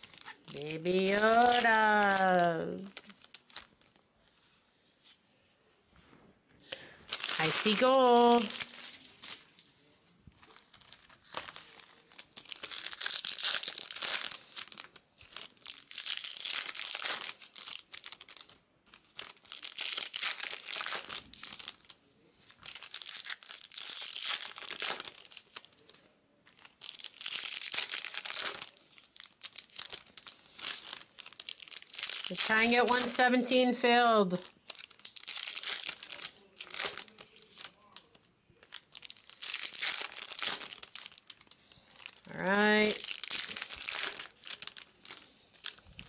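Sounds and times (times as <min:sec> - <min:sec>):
foil wrappers tearing and crinkling: 0:00.0 - 0:04.0, 0:07.1 - 0:46.0.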